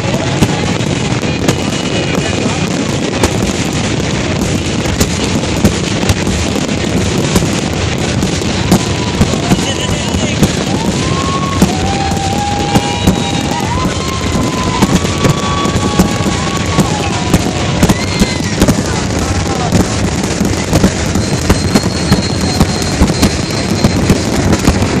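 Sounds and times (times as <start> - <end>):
fireworks bangs: 0.0 - 25.0
fireworks crackling: 0.0 - 25.0
fireworks whistling: 0.0 - 25.0.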